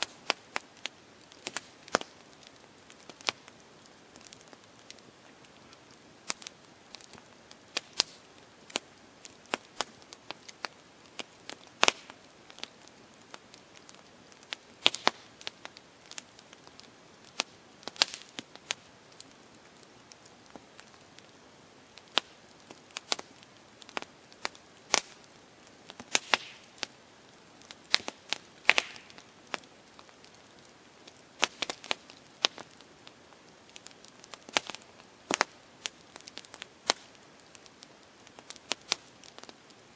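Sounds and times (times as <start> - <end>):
burning wood snapping and popping: 0.0 - 39.9
hiss of flames: 0.0 - 39.9.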